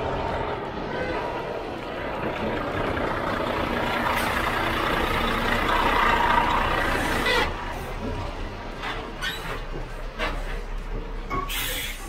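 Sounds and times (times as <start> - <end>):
truck diesel engine running: 0.0 - 11.3.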